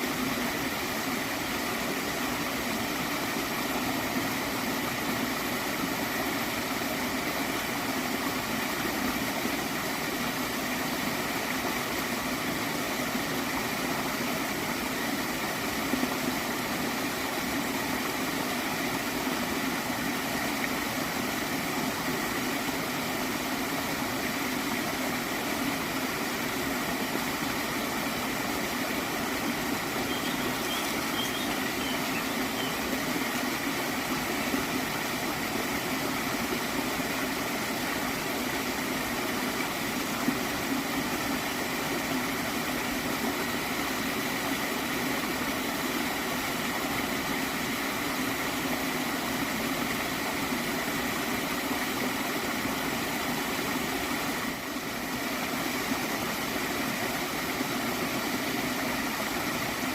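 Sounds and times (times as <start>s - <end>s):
stream flowing and gurgling: 0.0s - 59.9s.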